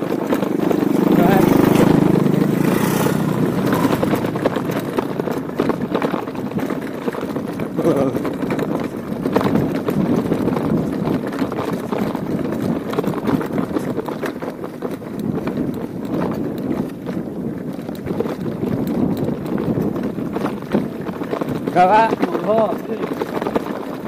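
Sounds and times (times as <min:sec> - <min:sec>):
bike frame and chain rattling: 0:00.0 - 0:24.0
bike tyres on loose rock: 0:00.0 - 0:24.0.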